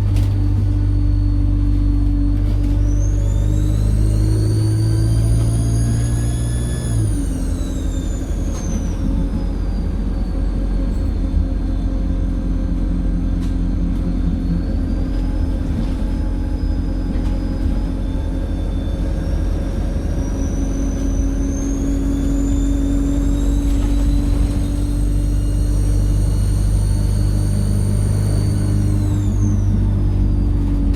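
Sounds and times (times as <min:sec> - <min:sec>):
bus engine drone: 0:00.0 - 0:30.9.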